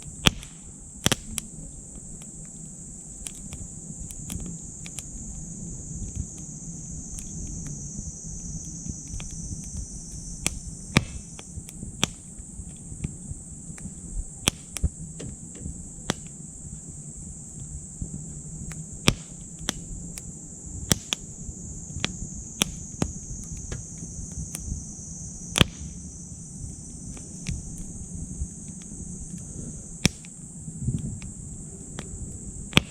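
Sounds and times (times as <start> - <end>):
insects chorus: 0.0 - 32.9
low rumble of flame: 0.0 - 32.9
wood fire crackling and popping: 0.0 - 32.9.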